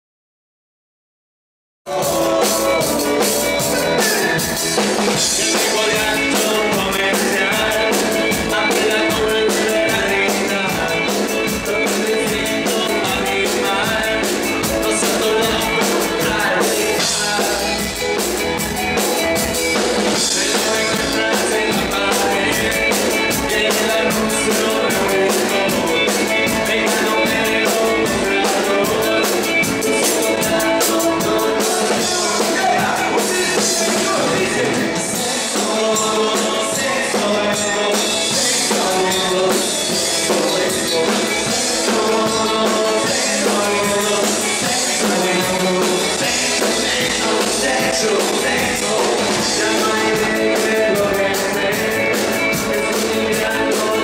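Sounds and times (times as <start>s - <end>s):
electric guitar: 1.9s - 54.0s
live band playing: 1.9s - 54.0s
fast cymbal beat: 2.0s - 54.0s.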